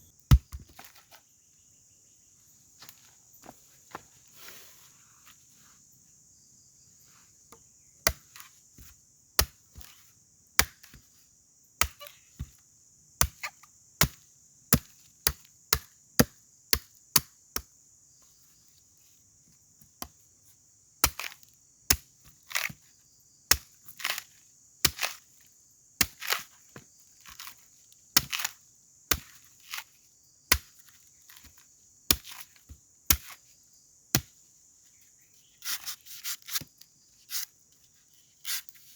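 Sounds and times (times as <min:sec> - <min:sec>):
forest insects droning: 0:00.0 - 0:38.9.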